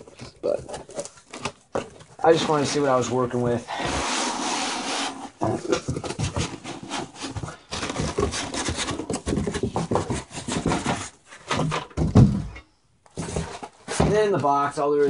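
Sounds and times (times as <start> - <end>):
cardboard rustling and crackling: 0.0 - 12.4, 13.1 - 15.0.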